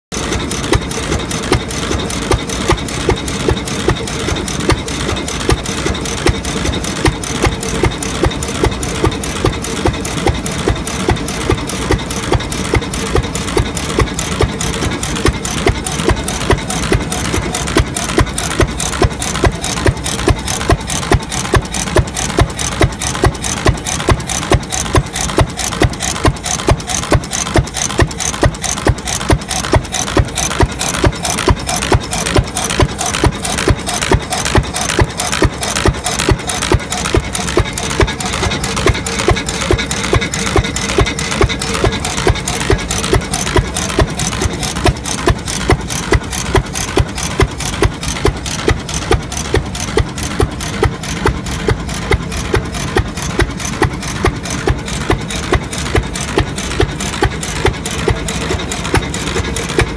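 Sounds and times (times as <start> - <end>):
engine exhaust firing beats: 0.1 - 59.9
valve gear clatter: 0.1 - 59.9.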